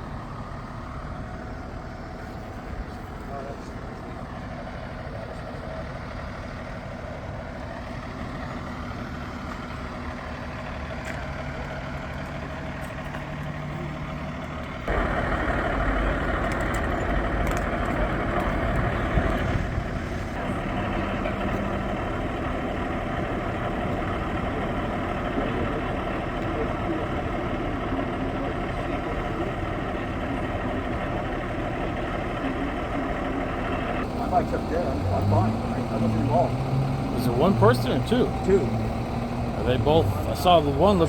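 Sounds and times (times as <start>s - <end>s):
vehicle engines idling and running: 0.0s - 41.0s.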